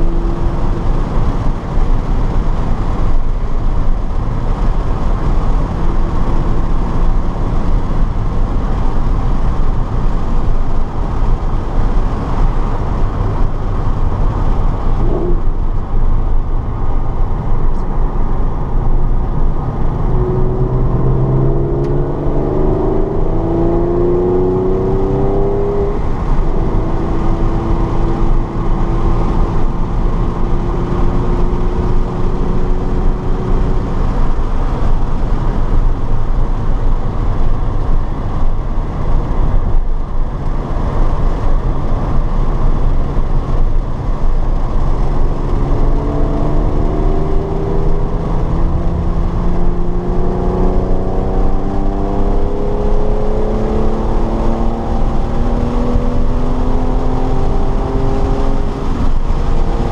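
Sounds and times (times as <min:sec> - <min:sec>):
race car engine: 0:00.0 - 0:59.9
wind and road noise: 0:00.0 - 0:59.9.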